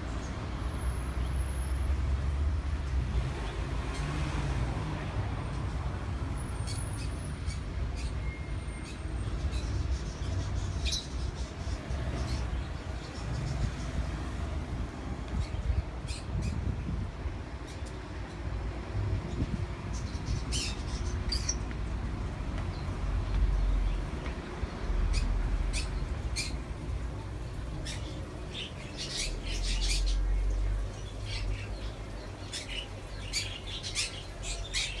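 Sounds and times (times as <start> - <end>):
small cage birds chirping: 0.0 - 35.0.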